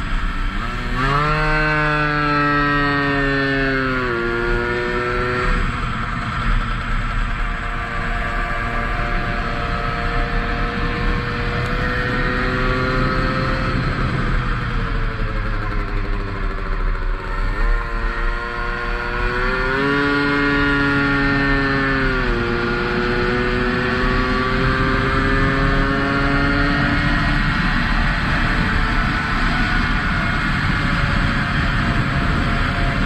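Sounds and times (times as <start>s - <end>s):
racing moped engine at high revs: 0.0s - 33.0s.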